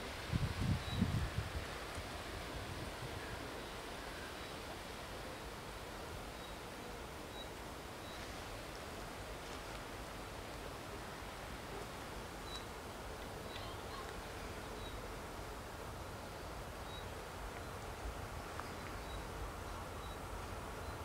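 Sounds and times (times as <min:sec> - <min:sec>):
steady low hiss: 0:00.0 - 0:21.0.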